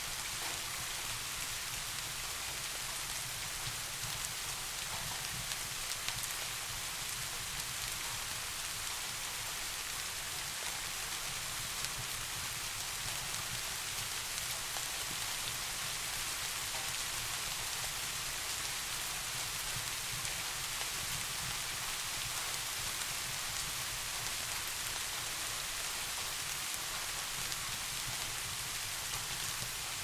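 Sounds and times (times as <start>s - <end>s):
soft rain falling: 0.0s - 30.0s.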